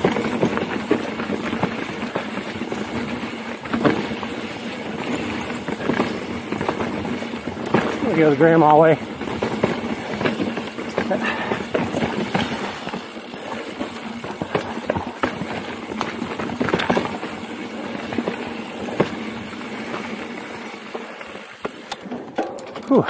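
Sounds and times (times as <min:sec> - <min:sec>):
bike rattling over bumps: 0:00.0 - 0:23.0
bike tyres crunching over rock: 0:00.0 - 0:23.0.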